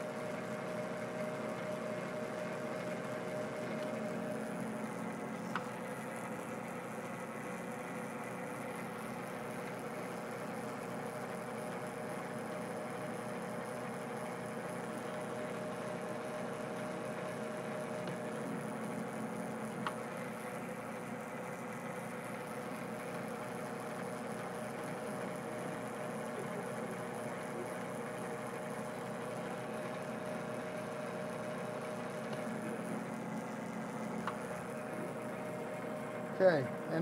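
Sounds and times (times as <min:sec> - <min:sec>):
metal lathe whirring: 0:00.0 - 0:12.0, 0:12.9 - 0:37.0.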